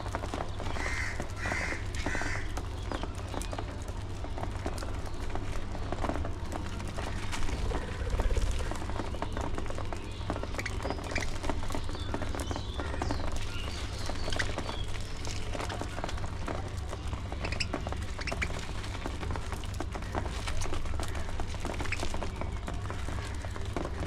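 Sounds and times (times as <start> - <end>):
steady low rumble: 0.0 - 24.0
budgies chirping: 0.3 - 3.6, 6.6 - 16.2, 16.8 - 24.0.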